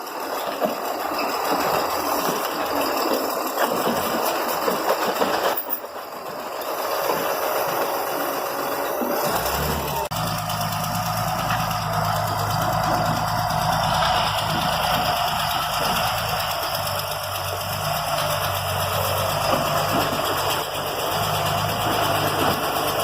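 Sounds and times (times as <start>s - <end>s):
heavy engine running: 0.0s - 23.0s
machinery clattering and rattling: 0.0s - 23.0s.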